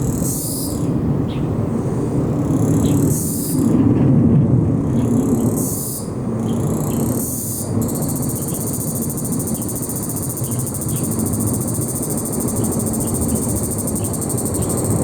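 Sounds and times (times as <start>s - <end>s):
insects buzzing: 0.0s - 3.9s, 4.6s - 15.0s.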